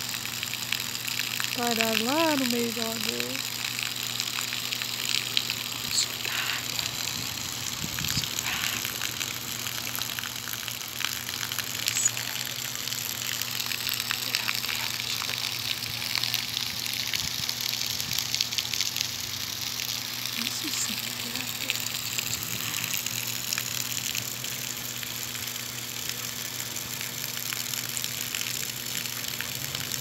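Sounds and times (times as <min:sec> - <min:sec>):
fountain water splashing on stones: 0:00.0 - 0:30.0
low steady hum: 0:00.0 - 0:30.0.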